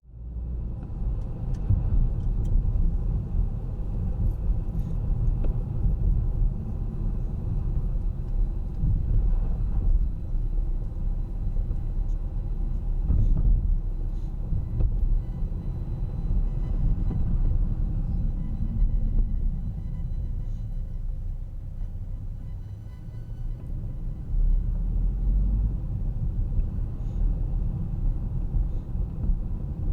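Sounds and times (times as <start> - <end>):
car engine and tyres rumbling: 0.0 - 29.9.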